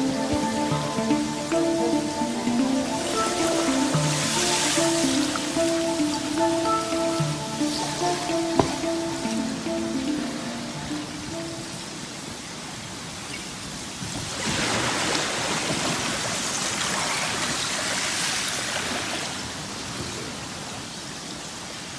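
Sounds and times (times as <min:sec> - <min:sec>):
river rushing with ice: 0:00.0 - 0:21.9.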